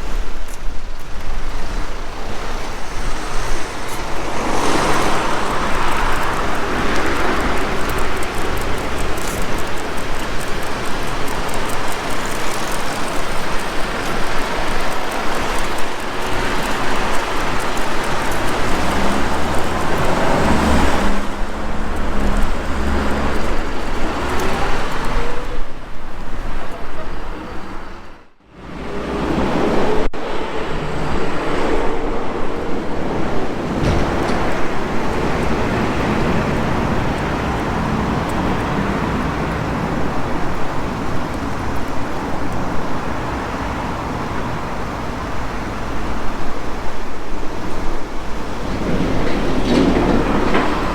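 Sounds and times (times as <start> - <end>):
vehicles passing close by: 0.0 - 50.9.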